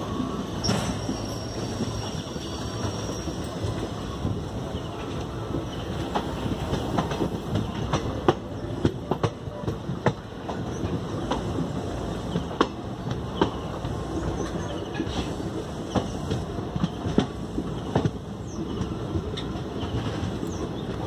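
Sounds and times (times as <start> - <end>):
train coaches rumbling: 0.0 - 21.0
wheels clicking on track: 0.0 - 21.0.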